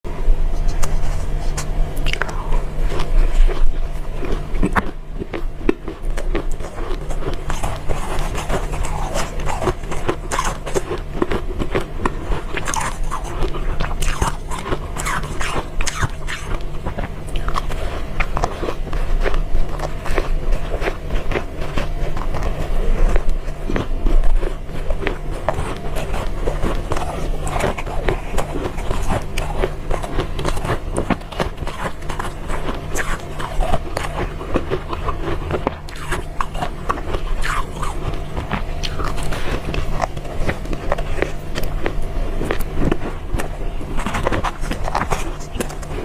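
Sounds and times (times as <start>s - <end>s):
low steady hum: 0.0s - 46.0s
chewing crunchy ice: 0.5s - 46.0s.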